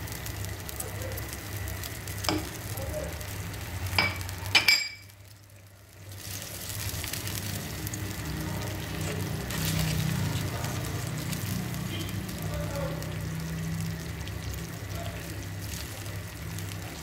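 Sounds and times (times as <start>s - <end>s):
sauce simmering: 0.0s - 17.0s.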